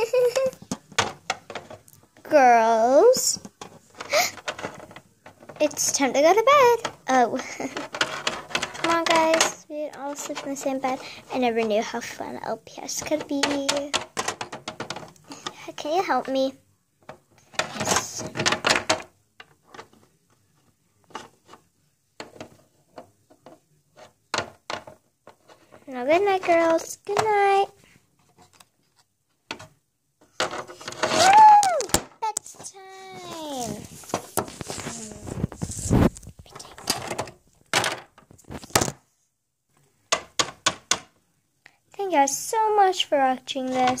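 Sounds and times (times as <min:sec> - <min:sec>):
plastic toys clicking and rubbing: 0:00.0 - 0:39.0.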